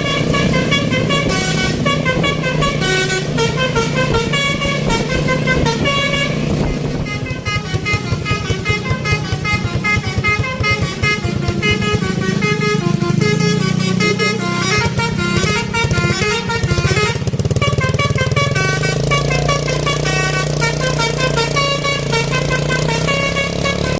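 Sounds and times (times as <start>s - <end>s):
bus engine running: 0.0s - 23.9s
bus multi-tone horn melody: 0.0s - 23.9s.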